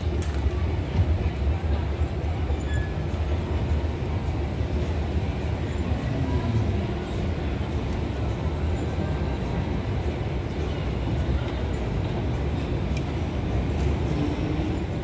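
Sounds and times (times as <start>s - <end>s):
murmur of crowd: 0.0s - 15.0s.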